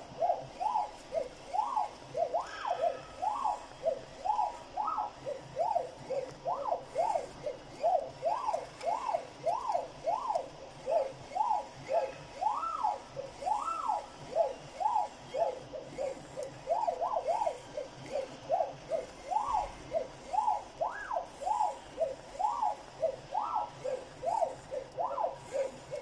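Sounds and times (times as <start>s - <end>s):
stepper motors whining: 0.0s - 26.0s.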